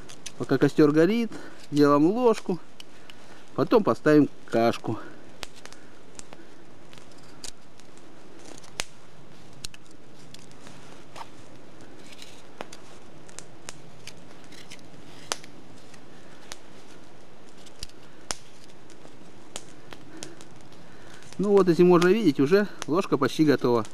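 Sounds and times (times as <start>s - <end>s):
faint hiss: 0.0s - 23.9s.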